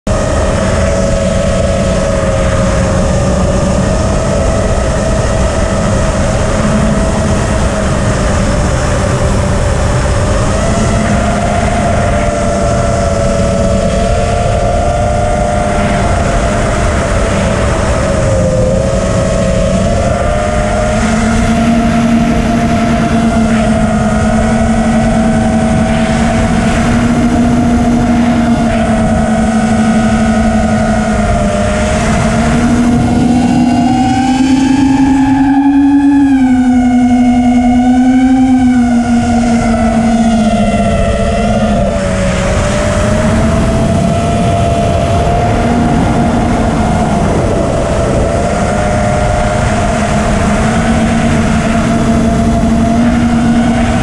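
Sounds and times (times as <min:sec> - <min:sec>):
drone propellers whining: 0:00.0 - 0:54.0
rushing wind noise: 0:00.0 - 0:54.0.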